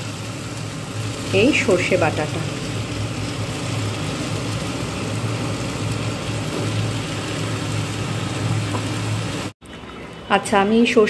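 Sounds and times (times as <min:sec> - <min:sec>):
food frying in a pan: 0:00.0 - 0:11.0.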